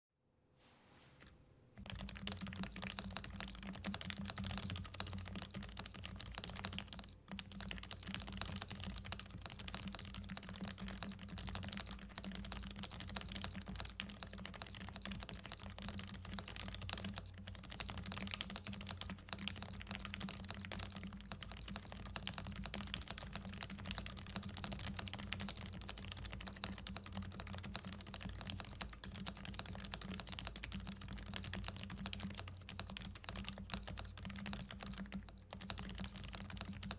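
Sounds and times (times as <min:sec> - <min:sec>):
mechanical keyboard typing: 0:01.8 - 0:36.9.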